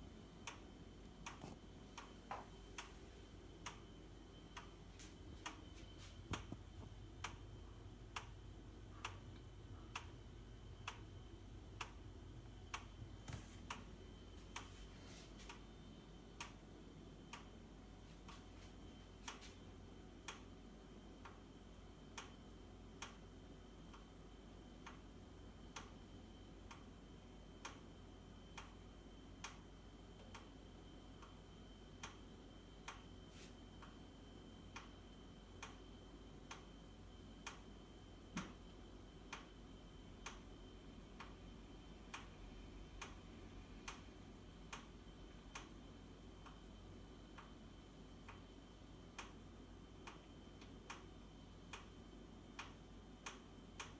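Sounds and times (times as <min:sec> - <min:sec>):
steady low hum: 0:00.0 - 0:53.9
boiler knocking ticks: 0:00.4 - 0:03.0, 0:03.6 - 0:14.7, 0:19.3 - 0:33.1, 0:34.7 - 0:36.8, 0:37.4 - 0:39.6, 0:40.2 - 0:53.9.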